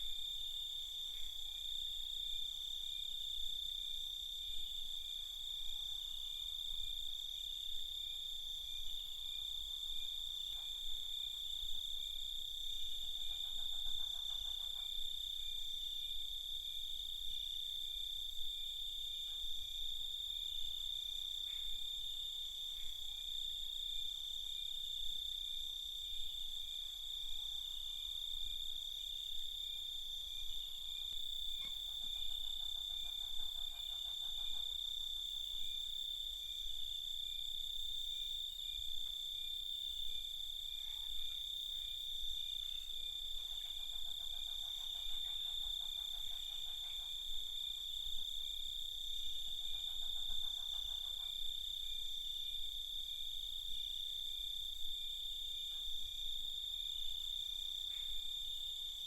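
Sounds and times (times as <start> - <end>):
lower pulsed insect trill: 0.0 - 59.0.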